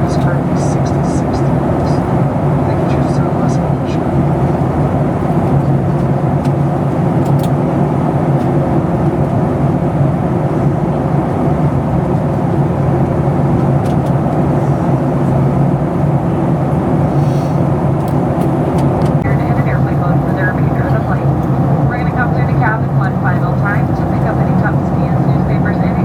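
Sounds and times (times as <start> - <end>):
aircraft cabin engine rush: 0.0 - 26.0.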